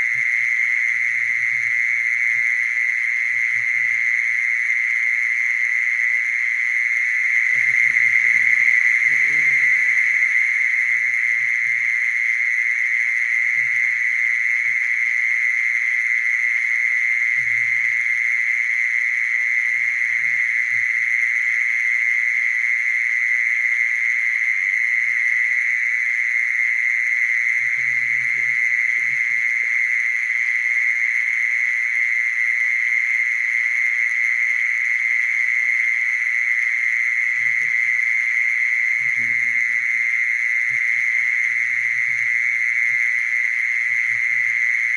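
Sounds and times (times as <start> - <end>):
cricket high-pitched trill: 0.0 - 44.9.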